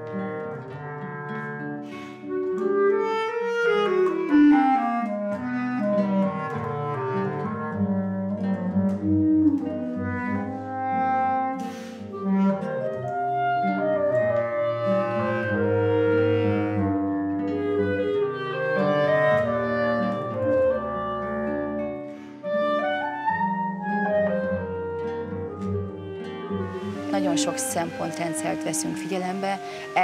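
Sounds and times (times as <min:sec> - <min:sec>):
bass clarinet low line: 0:00.0 - 0:30.0
clarinet melody: 0:00.0 - 0:30.0
classical guitar: 0:00.0 - 0:30.0.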